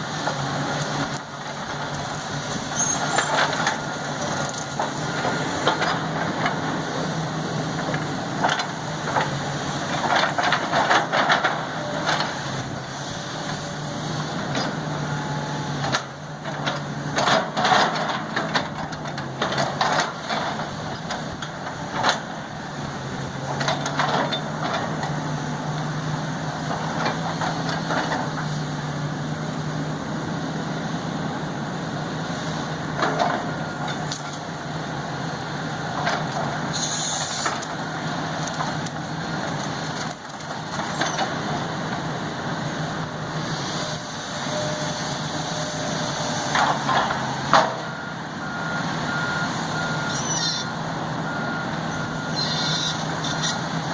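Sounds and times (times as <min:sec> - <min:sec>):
backhoe diesel engine running: 0:00.0 - 0:53.9.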